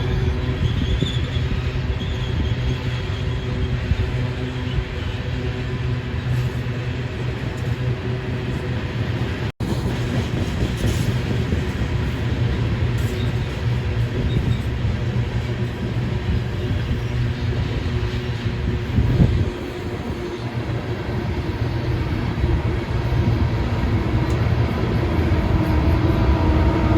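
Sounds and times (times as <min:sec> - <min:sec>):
diesel locomotive engine droning: 0:00.0 - 0:26.9
train wheels rolling: 0:00.0 - 0:26.9.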